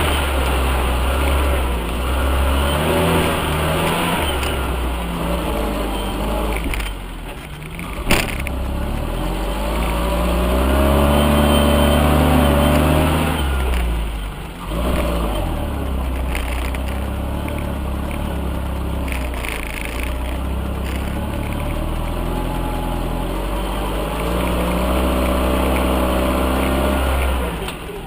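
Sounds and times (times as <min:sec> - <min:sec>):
off-road vehicle engine revving: 0:00.0 - 0:28.0.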